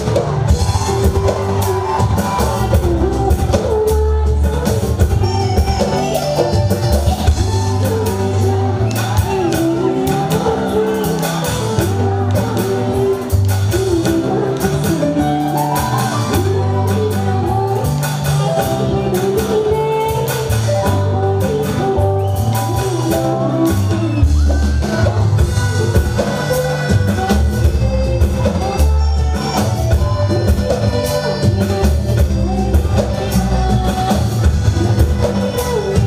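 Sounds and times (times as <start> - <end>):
bass guitar: 0.0 - 36.0
drum kit: 0.0 - 36.0
woman singing into a microphone: 0.0 - 36.0.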